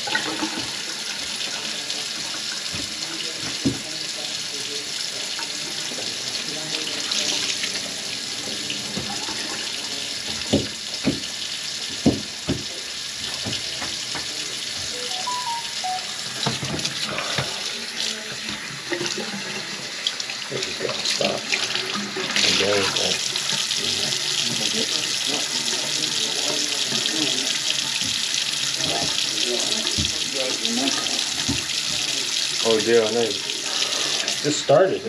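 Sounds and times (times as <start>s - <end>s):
water running from faucet: 0.0s - 35.0s.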